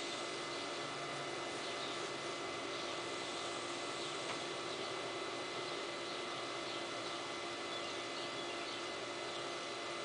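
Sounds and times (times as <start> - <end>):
ceiling fan whirring: 0.0 - 10.0.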